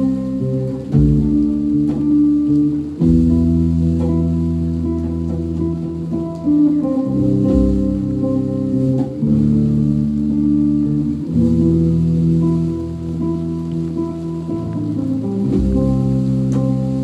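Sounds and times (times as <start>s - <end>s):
bass guitar: 0.0s - 17.0s
guitar chords: 0.0s - 17.0s.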